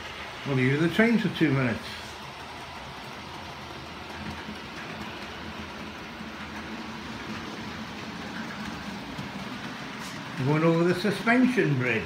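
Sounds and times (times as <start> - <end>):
wheels rumbling along track: 0.0 - 12.0.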